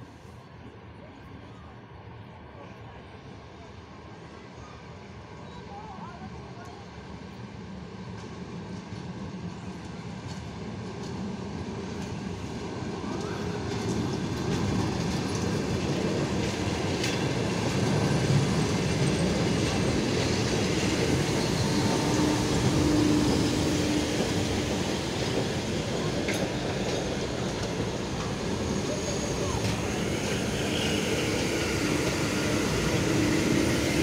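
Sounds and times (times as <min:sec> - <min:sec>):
train rolling past: 0:01.9 - 0:34.0.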